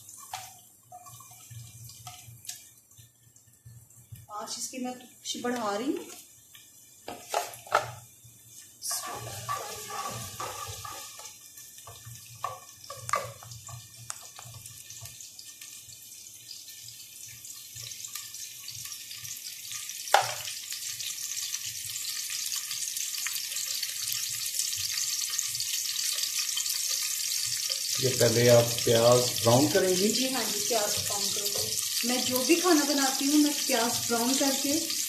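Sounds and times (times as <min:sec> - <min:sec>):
onions frying in oil: 0:00.0 - 0:35.0.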